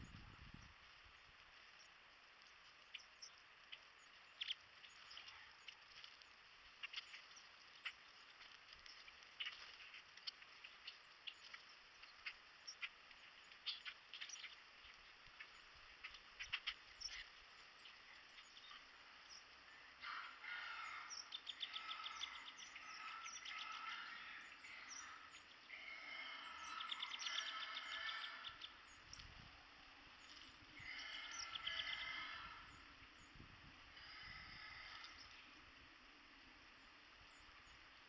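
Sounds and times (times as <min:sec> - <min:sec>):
faint outdoor ambience: 0:00.0 - 0:38.0
small birds chirping: 0:00.0 - 0:38.0.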